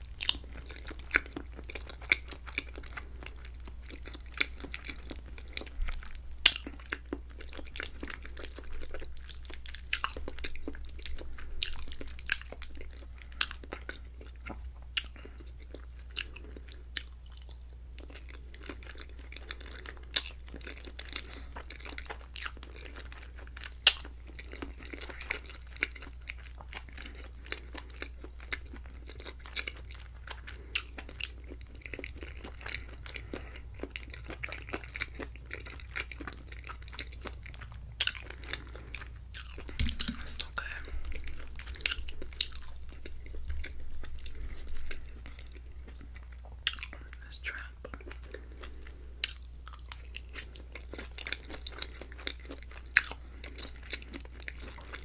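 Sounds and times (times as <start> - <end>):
wet chewing with clicks: 0.2 - 55.0.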